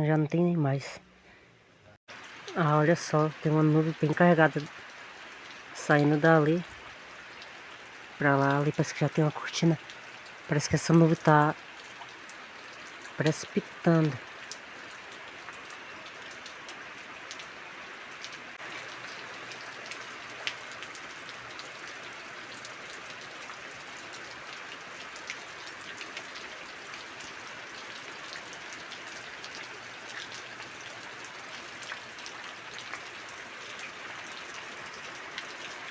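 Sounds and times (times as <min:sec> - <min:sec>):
rain falling: 0:02.1 - 0:35.9.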